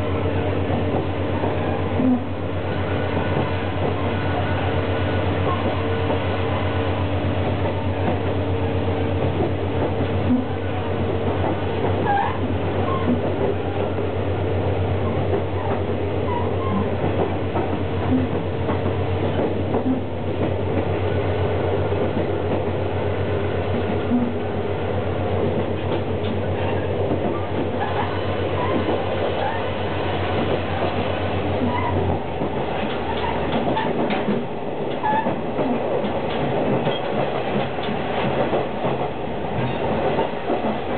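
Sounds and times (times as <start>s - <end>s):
wheel and rail noise: 0.0s - 40.9s.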